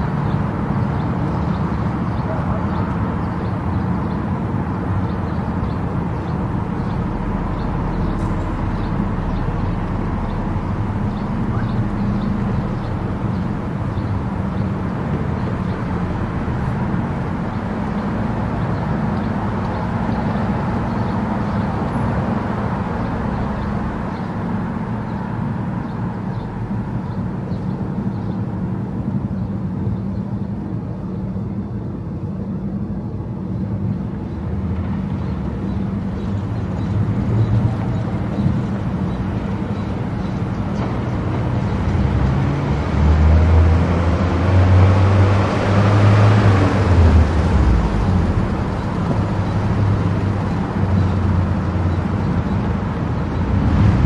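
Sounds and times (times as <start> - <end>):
car driving at highway speed: 0.0 - 54.0.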